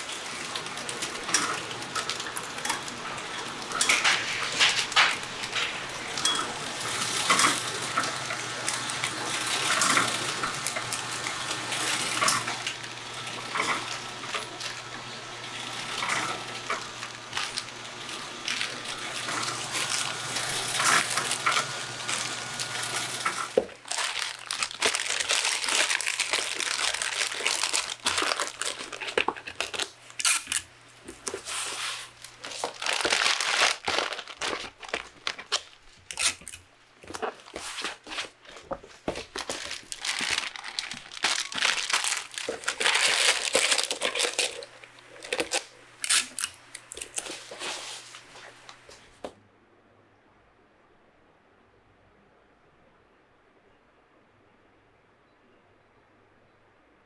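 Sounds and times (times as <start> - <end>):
hands crinkling plastic packets: 0.0 - 49.0
packaging machine humming: 0.0 - 49.0
plastic film rustling: 0.0 - 49.3.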